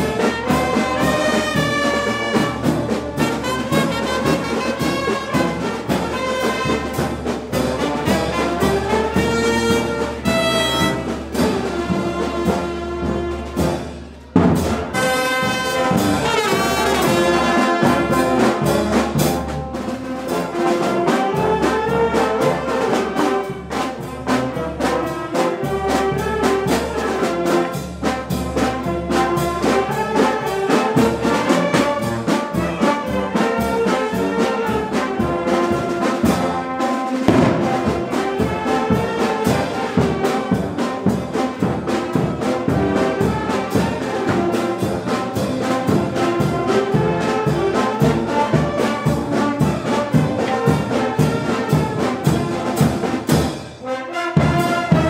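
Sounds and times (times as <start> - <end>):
steady drum beat: 0.0 - 53.8, 54.4 - 55.0
brass band playing: 0.0 - 55.0
trumpets and trombones melody: 0.0 - 55.0.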